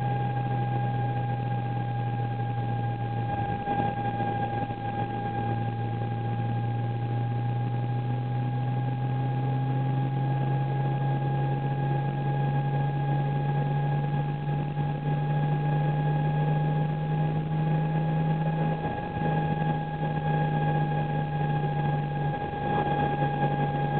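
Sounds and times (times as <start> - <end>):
car engine drone: 0.0 - 23.9
high-pitched whine: 0.0 - 23.9.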